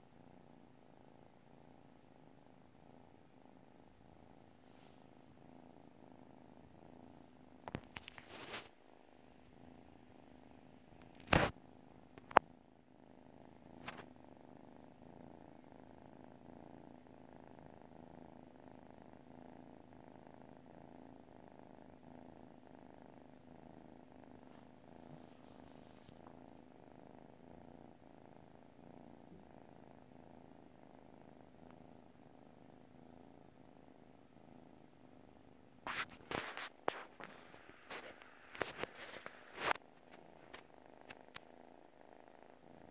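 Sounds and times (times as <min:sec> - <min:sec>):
kitten purring: 0:00.0 - 0:42.9.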